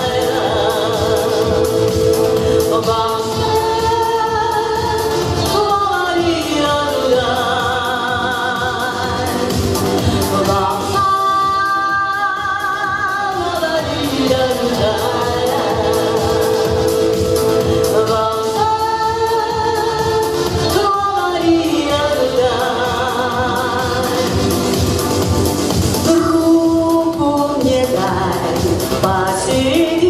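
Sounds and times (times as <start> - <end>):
backing music: 0.0 - 30.0
person singing with vibrato: 0.0 - 30.0.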